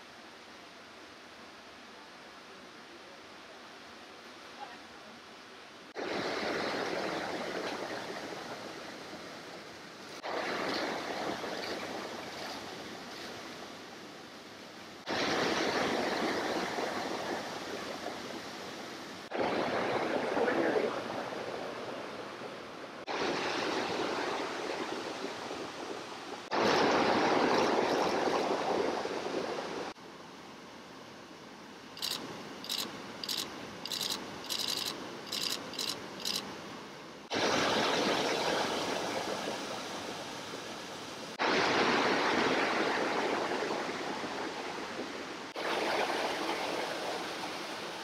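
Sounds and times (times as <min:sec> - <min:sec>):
rushing stream water: 0:00.0 - 0:48.0.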